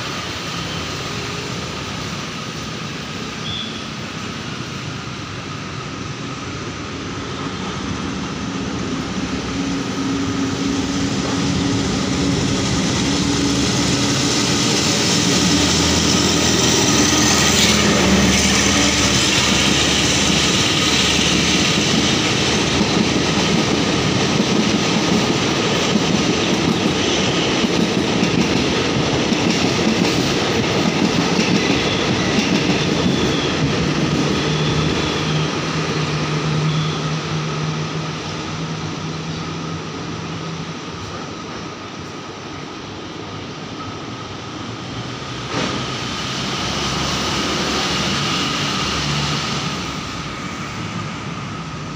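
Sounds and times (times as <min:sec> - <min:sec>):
diesel locomotive engine drone: 0:00.0 - 0:51.9
train coaches rolling past: 0:00.0 - 0:51.9.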